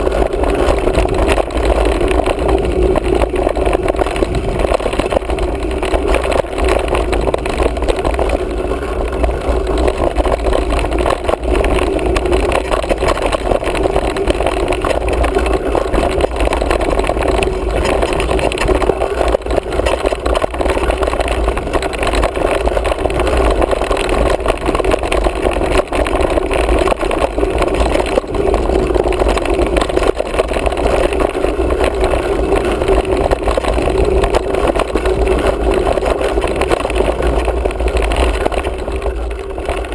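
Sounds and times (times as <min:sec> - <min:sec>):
tyres rumbling on dirt: 0:00.0 - 0:39.9
wind rushing on microphone: 0:00.0 - 0:39.9.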